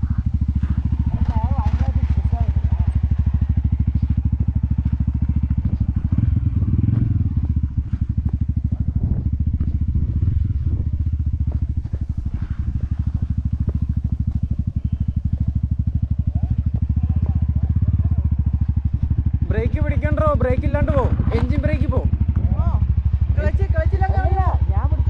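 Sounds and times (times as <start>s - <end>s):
motorcycle engine at low revs: 0.0s - 25.0s.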